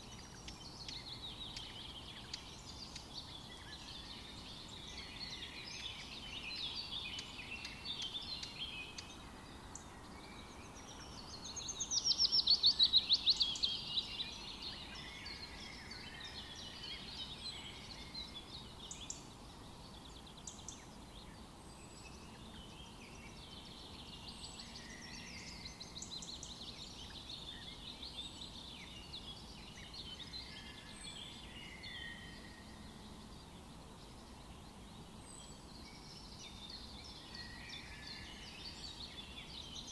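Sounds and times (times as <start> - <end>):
birds calling and singing: 0.0 - 39.9
faint outdoor hiss: 0.0 - 39.9.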